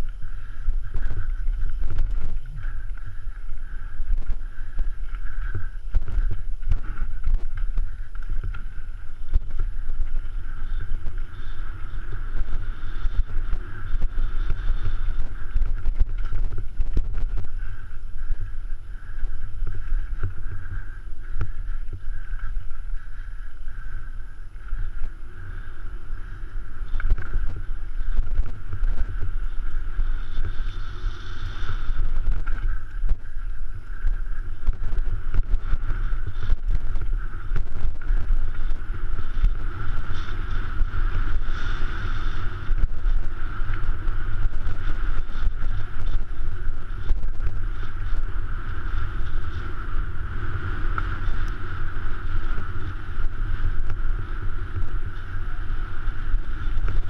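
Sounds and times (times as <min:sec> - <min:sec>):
steady high hum: 0:00.0 - 0:57.0
wind rumbling on camera: 0:00.0 - 0:57.0.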